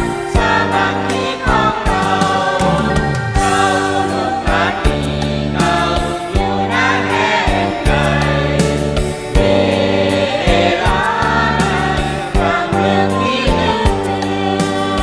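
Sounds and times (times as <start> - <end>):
band with bass and drums: 0.0 - 15.0
group of voices singing: 0.0 - 15.0.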